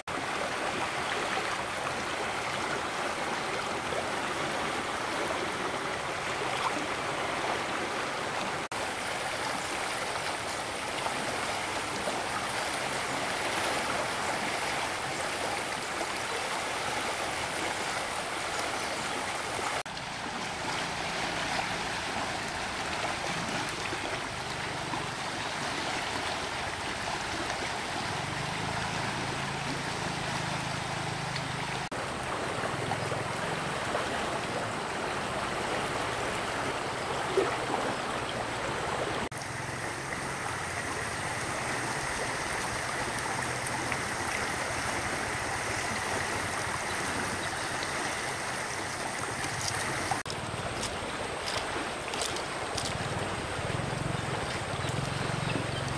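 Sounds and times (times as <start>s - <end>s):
stream water rushing: 0.0s - 55.9s.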